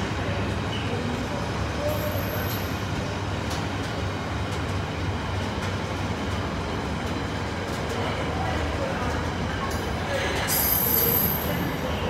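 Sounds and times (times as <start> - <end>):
freight train rumble: 0.0 - 12.0.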